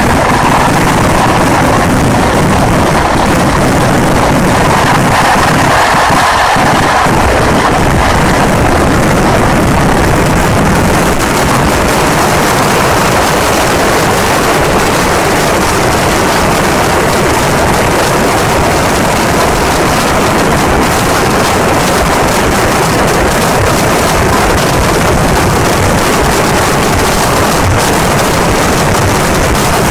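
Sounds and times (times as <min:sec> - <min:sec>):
fireworks barrage: 0:00.0 - 0:29.9.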